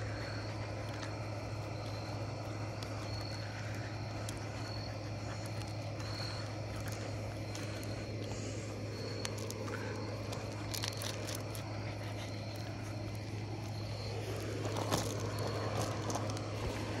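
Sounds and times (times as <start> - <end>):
gravel crunching under paws and shoes: 0.0 - 17.0
steady low hum: 0.0 - 17.0.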